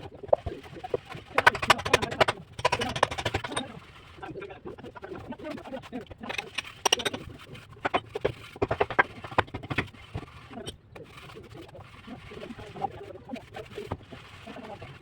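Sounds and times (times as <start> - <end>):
trowel scraping and tapping plaster: 0.0 - 15.0.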